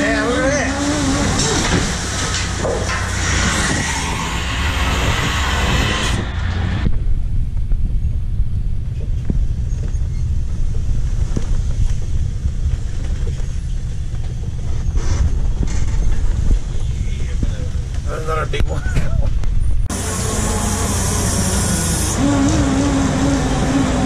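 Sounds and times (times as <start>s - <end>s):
low engine rumble aboard boat: 0.0s - 24.0s.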